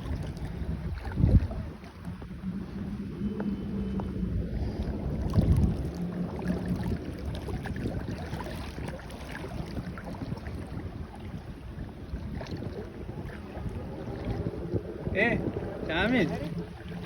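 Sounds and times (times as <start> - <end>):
low steady hum: 0.0 - 17.0
wind buffeting microphone: 0.0 - 17.0.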